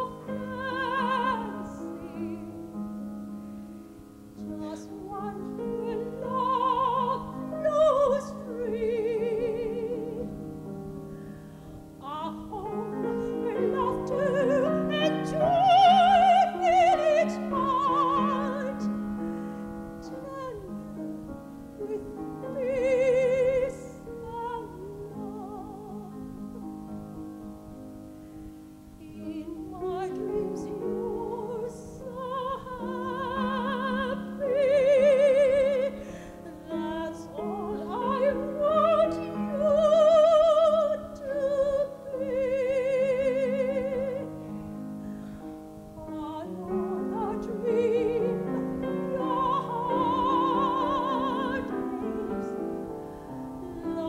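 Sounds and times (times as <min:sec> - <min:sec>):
soprano singing opera: 0:00.0 - 0:03.4, 0:04.0 - 0:27.6, 0:28.4 - 0:54.0
grand piano: 0:00.0 - 0:54.0.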